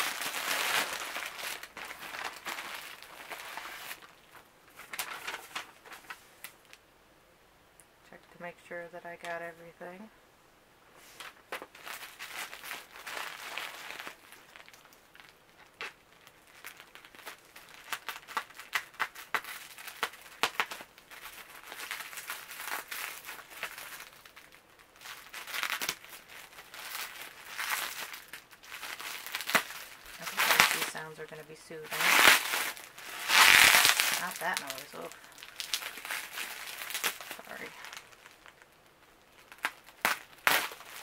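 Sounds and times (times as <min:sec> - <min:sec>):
plastic packaging crinkling: 0:00.0 - 0:06.8, 0:11.0 - 0:41.0.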